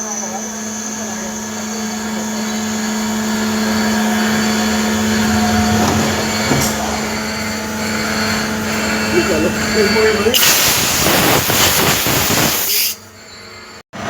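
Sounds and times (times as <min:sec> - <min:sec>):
lathe humming and hissing: 0:00.0 - 0:11.6.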